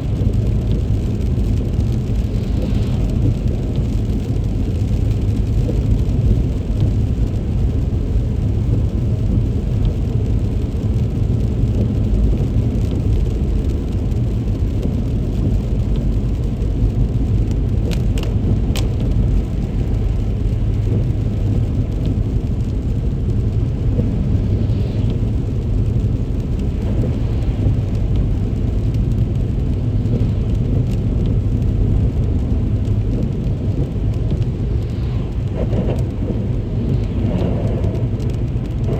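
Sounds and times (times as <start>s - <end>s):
car driving in heavy rain: 0.0s - 38.9s.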